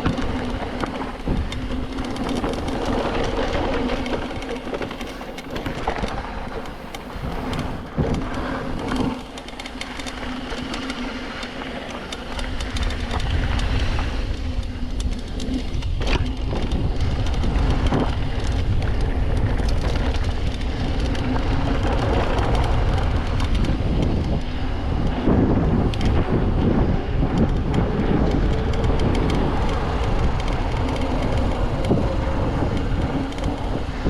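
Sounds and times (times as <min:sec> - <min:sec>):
bike rattling over rough ground: 0:00.0 - 0:34.0
freewheel hub buzzing: 0:00.0 - 0:34.0
wind rumble on microphone: 0:00.0 - 0:34.0.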